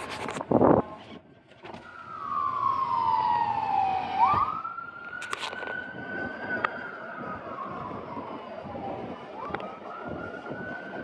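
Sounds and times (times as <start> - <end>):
ambulance siren wailing: 1.8 - 11.0.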